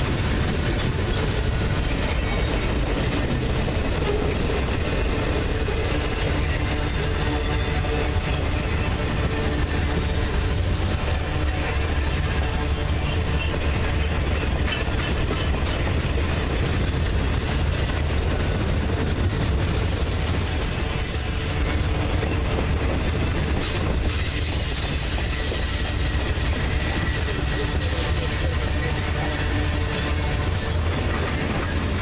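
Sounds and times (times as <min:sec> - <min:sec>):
low hum of train cars: 0:00.0 - 0:32.0
train wheels on rail: 0:00.0 - 0:32.0.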